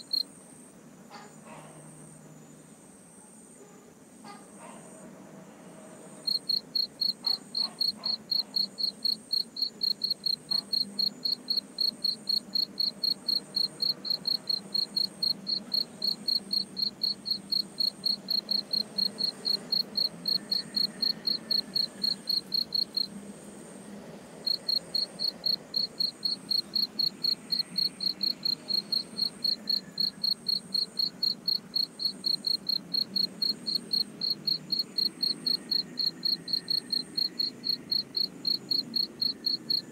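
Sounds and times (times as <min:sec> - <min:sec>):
cricket chirping: 0:00.0 - 0:03.6, 0:05.7 - 0:39.9
high-pitched insect chirps: 0:06.3 - 0:23.1, 0:24.5 - 0:39.9.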